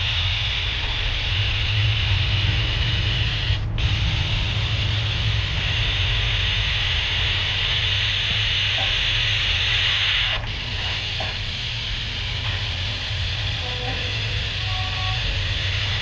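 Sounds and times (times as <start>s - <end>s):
low motor hum: 0.0s - 16.0s
paint sprayer hissing: 0.0s - 16.0s.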